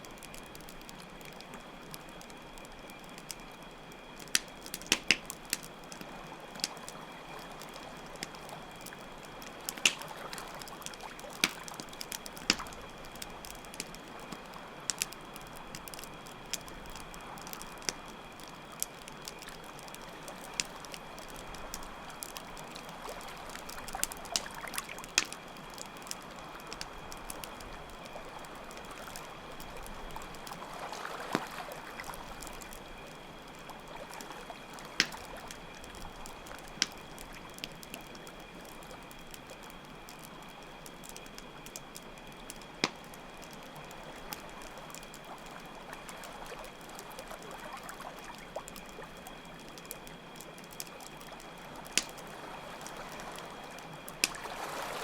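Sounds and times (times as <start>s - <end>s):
crickets chirping: 0.0s - 55.0s
wood fire crackling: 0.0s - 55.0s.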